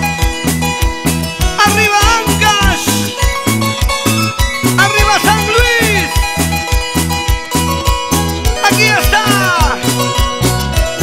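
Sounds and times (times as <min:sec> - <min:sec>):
steady bass beat: 0:00.0 - 0:11.0
wavering lead melody: 0:00.0 - 0:11.0.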